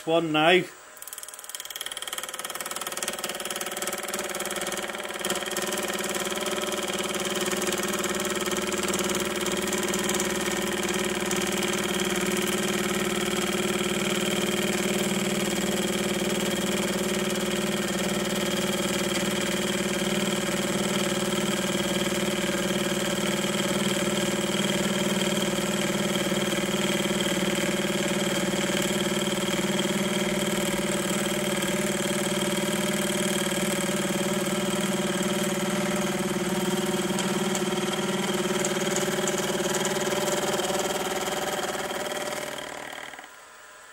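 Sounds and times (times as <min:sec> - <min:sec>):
milling machine hum: 0:00.0 - 0:43.9.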